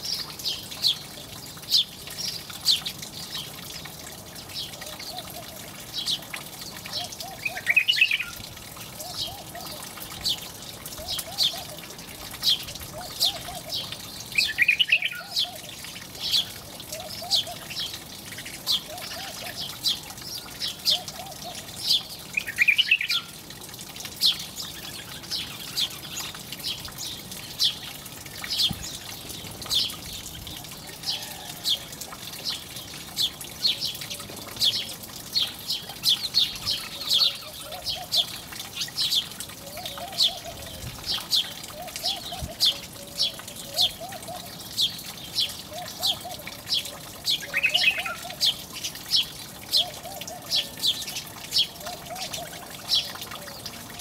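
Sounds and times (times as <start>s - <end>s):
sparrows chirping: 4.5s - 23.4s, 24.2s - 54.0s.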